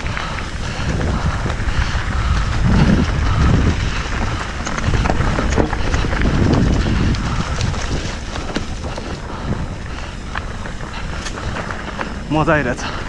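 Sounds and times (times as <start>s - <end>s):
bike clicking and rattling: 0.0s - 13.0s
bike tyre noise: 0.0s - 13.0s
wind buffeting microphone: 0.0s - 13.0s.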